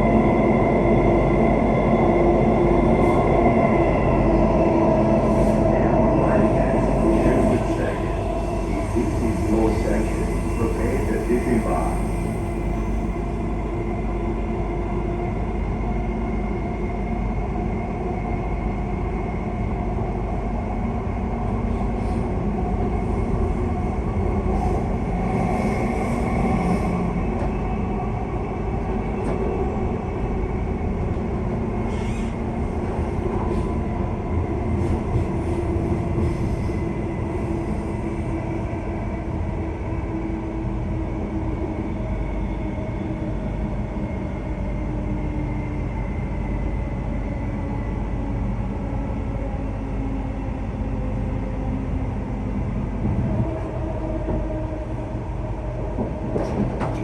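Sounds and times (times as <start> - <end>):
electric train rumble: 0.0 - 57.0.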